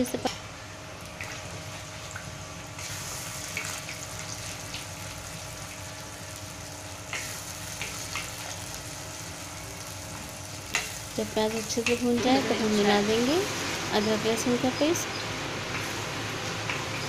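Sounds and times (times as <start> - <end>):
onions sizzling in hot oil: 1.0 - 17.0.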